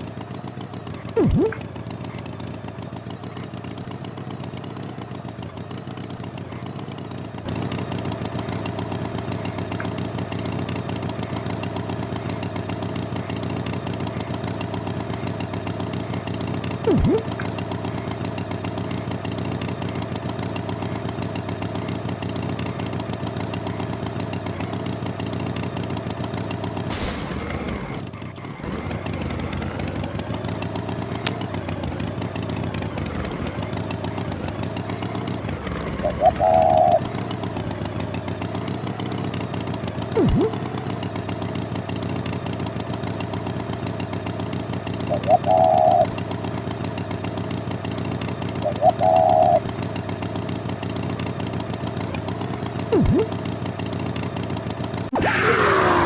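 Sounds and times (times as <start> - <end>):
tractor engine idling: 0.0 - 55.2.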